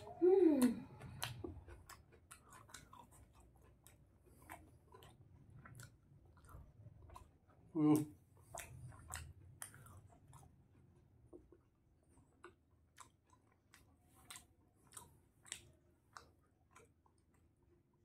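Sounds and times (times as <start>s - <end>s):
person chewing: 0.0s - 18.0s.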